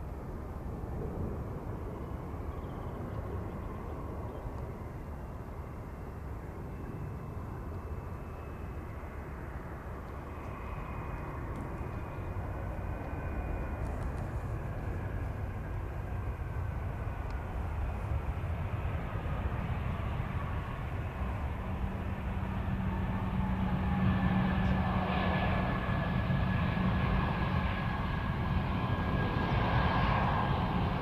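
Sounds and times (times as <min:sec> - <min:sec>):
jet engines rumbling with whine: 0:00.0 - 0:31.0.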